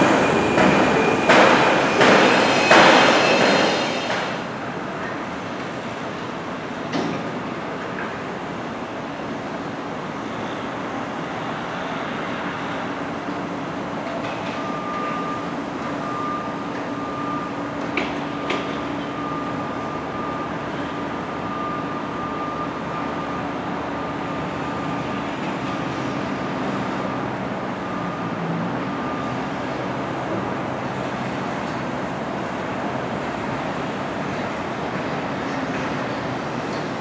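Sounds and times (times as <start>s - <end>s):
distant construction machinery: 0.0s - 37.0s.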